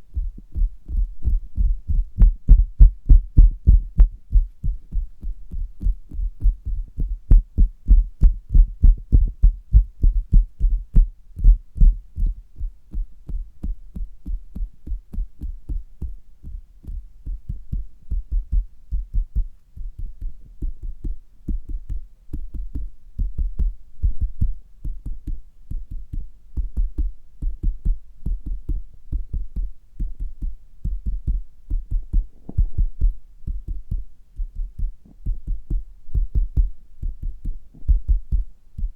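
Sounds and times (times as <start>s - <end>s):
fingers tapping on stomach: 0.2s - 38.9s.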